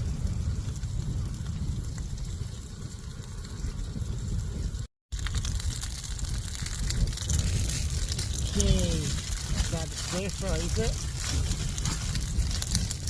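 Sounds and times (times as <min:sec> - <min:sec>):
strong wind buffeting microphone: 0:00.0 - 0:13.0
crackly rustling: 0:00.3 - 0:13.0.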